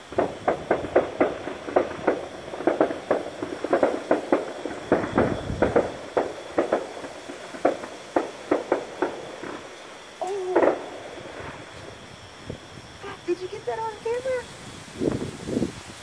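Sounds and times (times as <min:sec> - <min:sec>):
firecrackers popping: 0:00.0 - 0:16.0.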